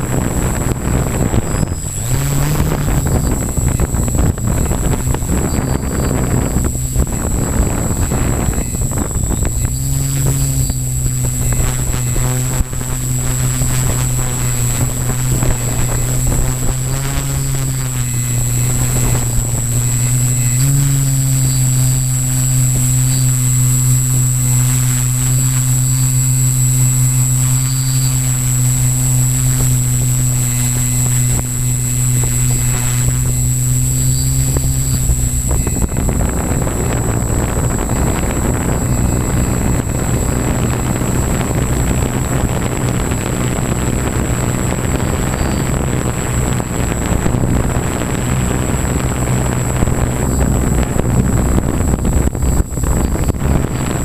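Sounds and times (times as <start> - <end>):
drone propellers humming: 0.0 - 54.0
thin high whine: 0.0 - 54.0
wind on microphone: 0.0 - 54.0.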